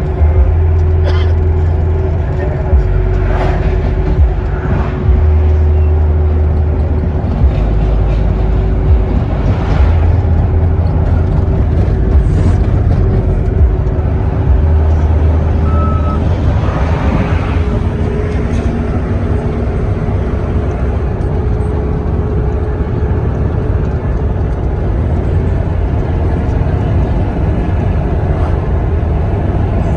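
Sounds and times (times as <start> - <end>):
road vehicle rumble: 0.0 - 29.9.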